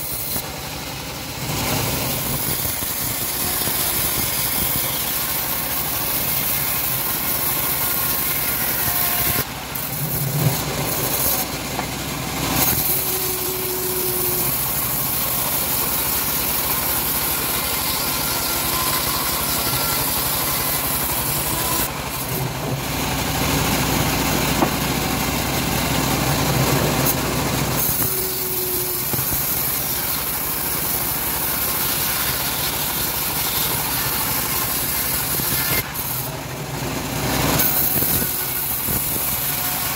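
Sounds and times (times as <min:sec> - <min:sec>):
bandsaw sawing through log: 0:00.0 - 0:39.9.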